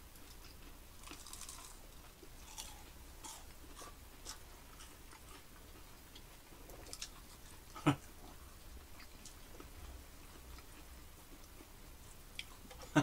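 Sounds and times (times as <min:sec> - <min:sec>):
chewing and crunching food: 0:00.1 - 0:13.0.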